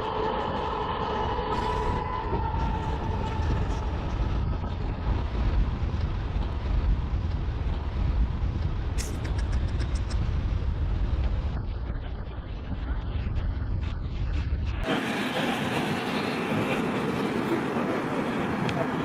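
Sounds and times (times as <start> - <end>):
airliner rumble during landing: 0.0 - 19.0.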